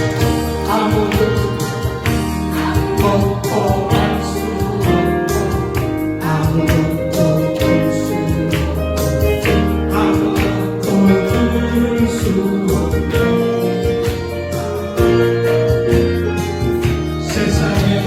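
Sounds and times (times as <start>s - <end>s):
gospel song with accompaniment: 0.0s - 18.0s.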